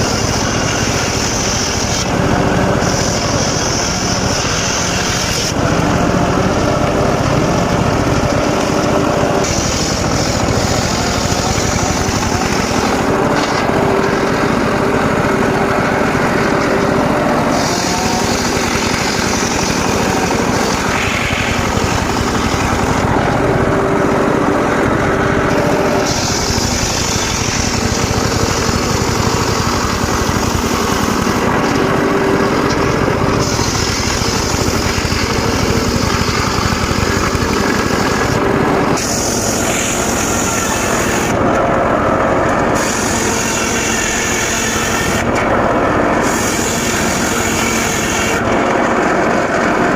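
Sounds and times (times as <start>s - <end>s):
hiss of blade cutting wood: 0.0s - 49.6s
circular sawmill running: 0.0s - 49.9s.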